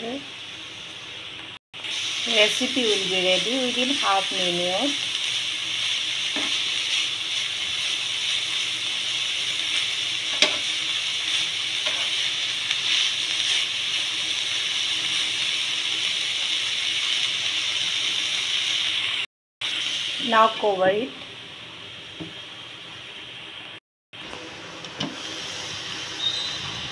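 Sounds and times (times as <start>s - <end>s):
vegetables sizzling in a pan: 0.0s - 26.9s.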